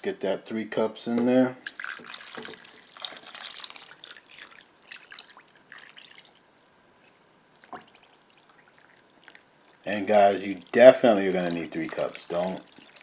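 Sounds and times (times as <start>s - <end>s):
broth pouring and splashing: 1.6s - 13.0s.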